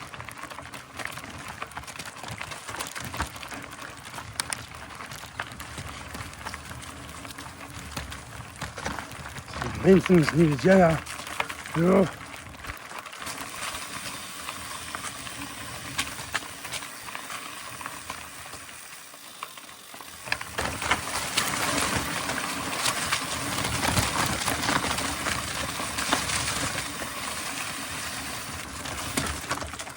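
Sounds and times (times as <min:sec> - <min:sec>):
bike clicking and rattling: 0:00.0 - 0:29.9
bike tyres crunching on dirt: 0:00.0 - 0:29.9.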